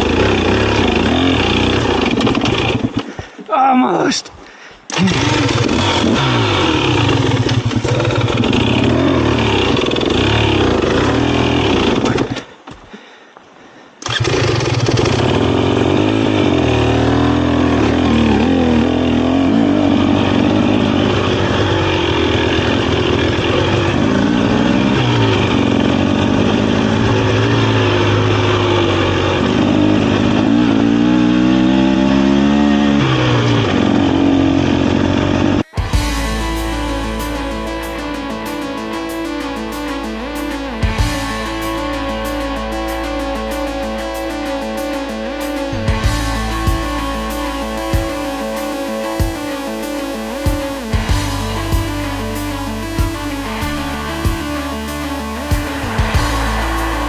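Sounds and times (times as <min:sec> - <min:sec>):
dirt bike engine revving: 0:00.0 - 0:03.2, 0:04.9 - 0:12.4, 0:14.0 - 0:57.0.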